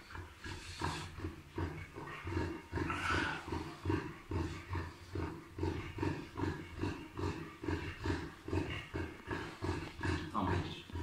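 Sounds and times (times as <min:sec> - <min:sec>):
dog panting hard: 0:00.0 - 0:11.0.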